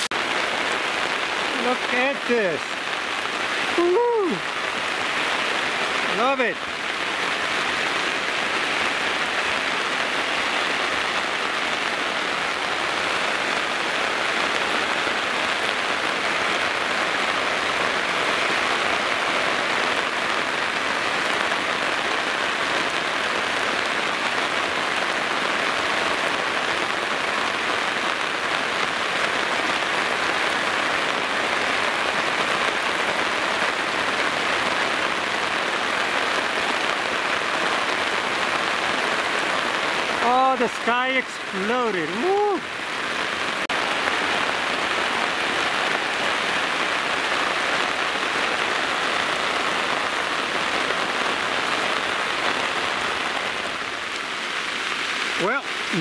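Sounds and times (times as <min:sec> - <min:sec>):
heavy rain downpour: 0:00.0 - 0:56.0.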